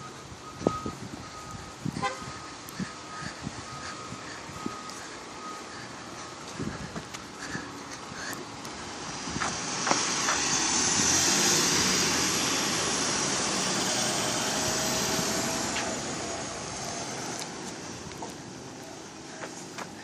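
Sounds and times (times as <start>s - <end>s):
truck engine rushing: 0.0s - 20.0s.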